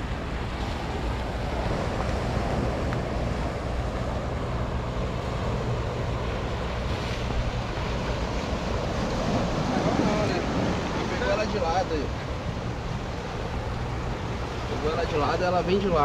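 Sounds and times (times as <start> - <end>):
sea surf on rocky shore: 0.0 - 16.0.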